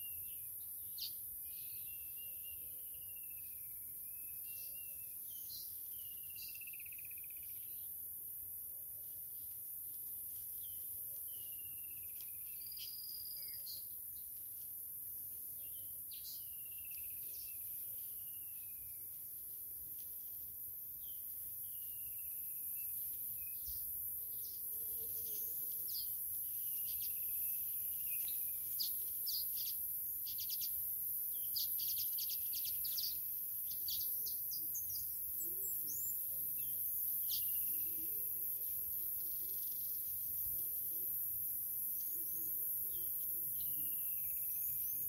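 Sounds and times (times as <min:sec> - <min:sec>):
wild birds chirping: 0:00.0 - 0:45.0.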